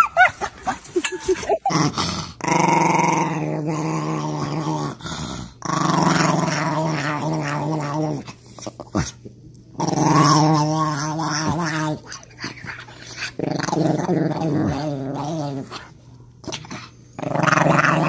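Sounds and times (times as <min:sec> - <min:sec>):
small dog growling: 0:00.4 - 0:09.2, 0:09.8 - 0:18.0.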